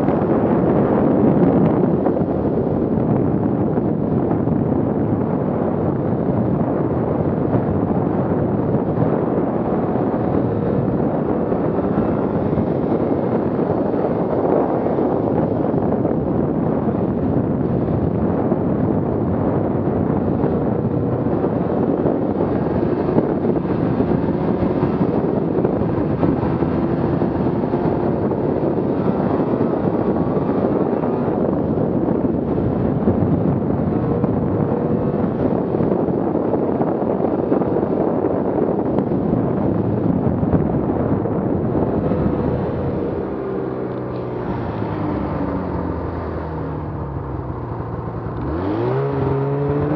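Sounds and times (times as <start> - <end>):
wind noise on microphone: 0.0 - 49.9
snowmobile engine running: 5.1 - 49.9.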